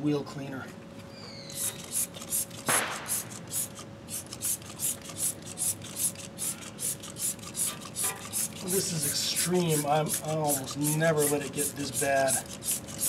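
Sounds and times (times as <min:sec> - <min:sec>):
spray bottle hissing squirts: 0:01.5 - 0:13.0.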